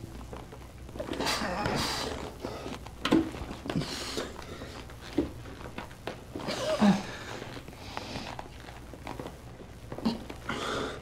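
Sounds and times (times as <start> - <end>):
knocks and shuffling: 0.0 - 10.5.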